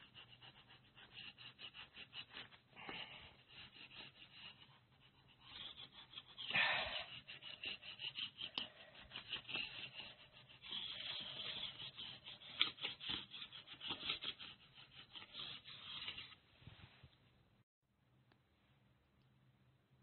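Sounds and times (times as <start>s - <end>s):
sponge rubbing on paper: 0.0s - 16.4s.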